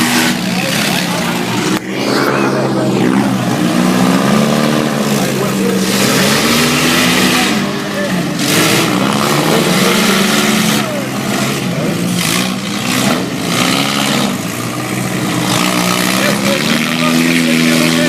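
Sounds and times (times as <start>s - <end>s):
car engines revving: 0.0s - 18.0s
rough exhaust noise: 0.0s - 18.0s.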